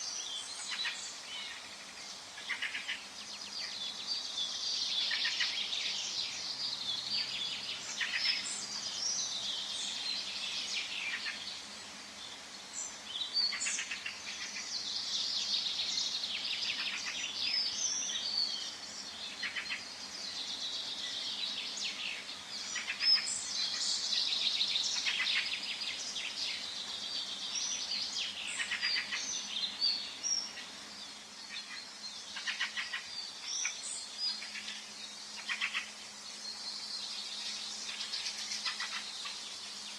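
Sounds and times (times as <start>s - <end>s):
faint background hiss: 0.0s - 39.9s
songbirds singing and chirping: 0.0s - 39.9s.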